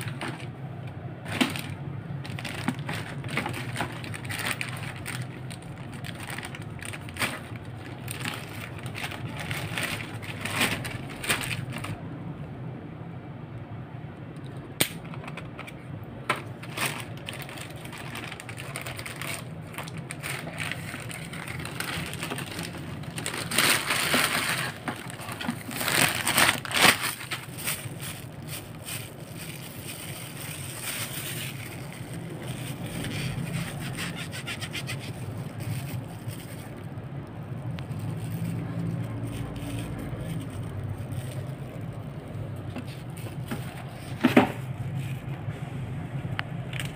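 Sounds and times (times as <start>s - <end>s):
plastic packaging crinkling: 0.0s - 0.6s, 1.2s - 12.0s, 16.4s - 45.2s
low steady hum: 0.0s - 46.9s.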